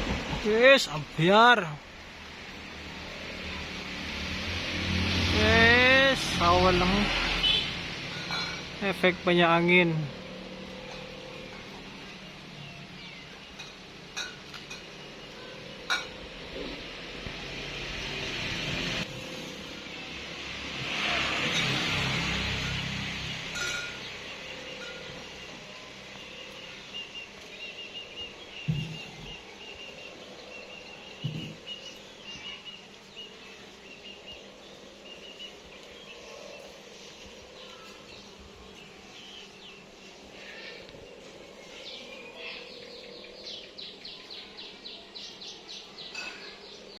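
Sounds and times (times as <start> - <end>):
small birds chirping: 0.1 - 20.2, 20.9 - 47.0.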